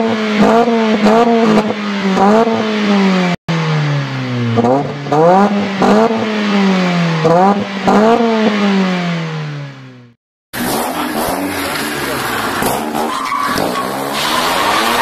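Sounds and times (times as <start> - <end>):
car being driven hard: 0.0 - 15.0
car engine revving: 0.0 - 15.0.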